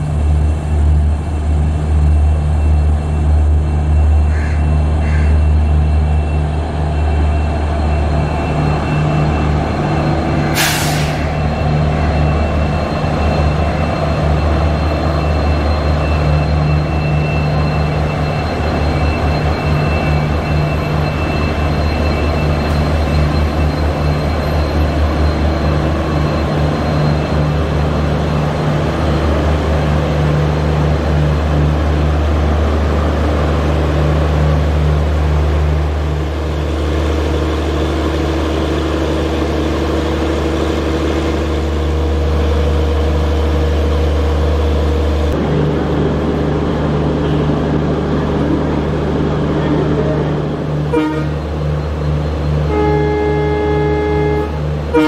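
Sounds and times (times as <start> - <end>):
diesel locomotive engine throbbing: 0.0 - 55.0.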